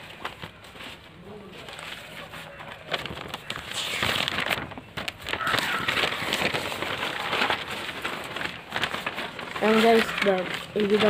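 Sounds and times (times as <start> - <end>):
newspaper crumpling and rustling: 0.0 - 11.0.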